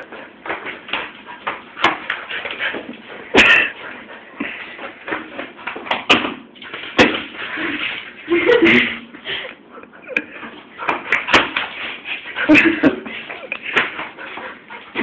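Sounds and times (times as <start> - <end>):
dog scuffling on hard floor: 0.1 - 8.5, 10.8 - 15.0.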